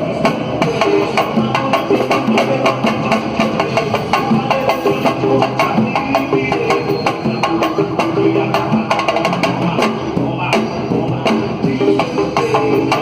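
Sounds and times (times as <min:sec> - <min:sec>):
samba drums: 0:00.0 - 0:13.0.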